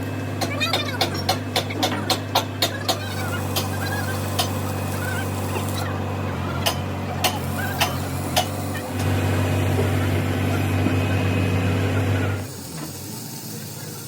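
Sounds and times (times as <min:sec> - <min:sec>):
machine humming: 0:00.0 - 0:13.9.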